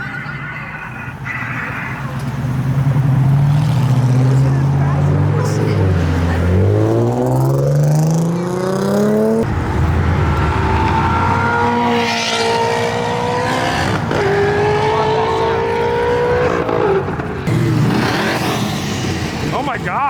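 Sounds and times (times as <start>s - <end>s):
car engine revving: 1.2s - 20.0s.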